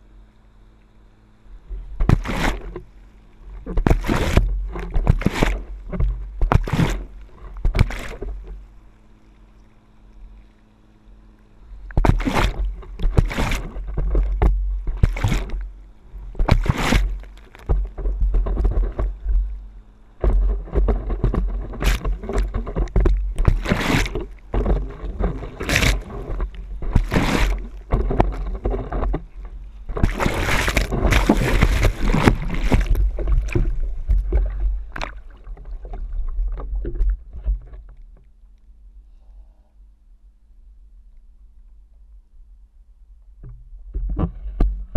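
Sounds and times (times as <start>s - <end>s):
wind rumble on microphone: 1.5s - 8.8s, 11.8s - 39.1s, 40.2s - 44.9s
water splashing: 1.6s - 38.3s.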